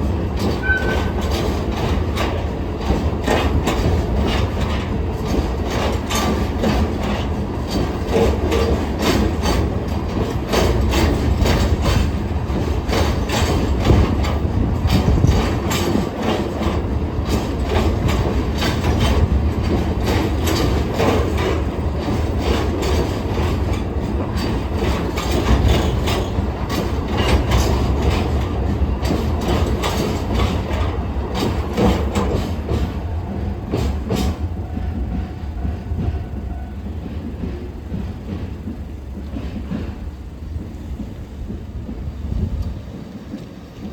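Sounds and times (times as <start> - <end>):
train rumble: 0.0 - 43.9
wheels clattering over rail joints: 0.0 - 43.9.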